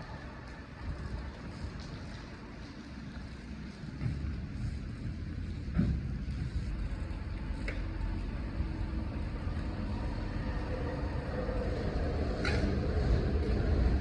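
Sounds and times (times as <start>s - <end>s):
vehicle rumbling: 0.0s - 14.0s
wind buffeting microphone: 0.0s - 14.0s.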